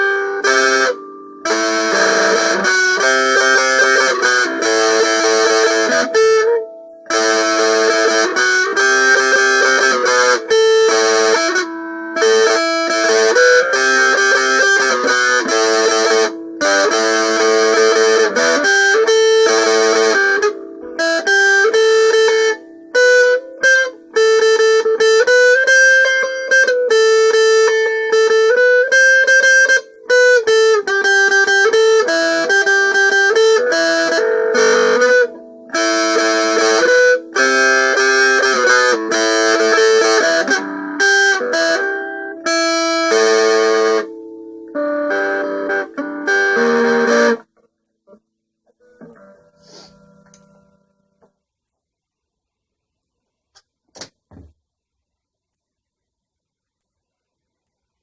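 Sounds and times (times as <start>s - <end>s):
guitar melody: 0.0s - 51.3s.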